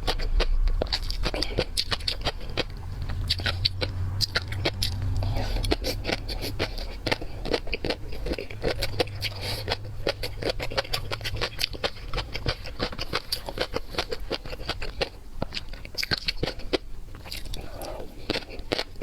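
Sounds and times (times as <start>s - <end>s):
seafood clicking and crackling: 0.0s - 19.0s.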